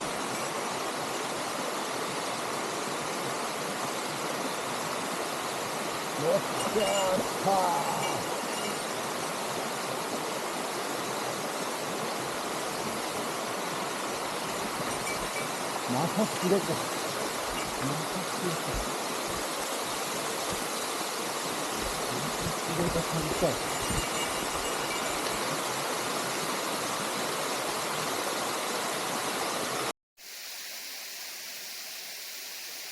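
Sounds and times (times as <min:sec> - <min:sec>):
stream water over rocks: 0:00.0 - 0:32.9.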